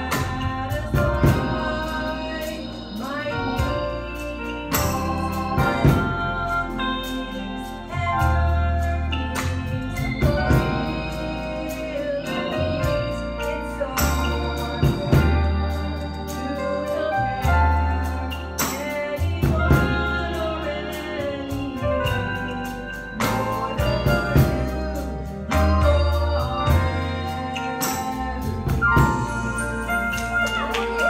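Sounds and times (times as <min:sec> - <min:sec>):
organ playing: 0:00.0 - 0:31.0
woman singing into microphone: 0:00.0 - 0:31.0.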